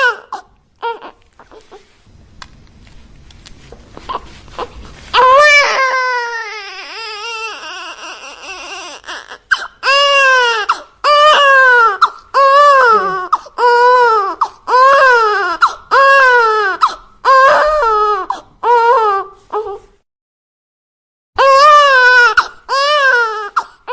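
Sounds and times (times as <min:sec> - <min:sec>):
infant crying: 0:00.0 - 0:01.8, 0:04.1 - 0:19.9, 0:21.4 - 0:23.9.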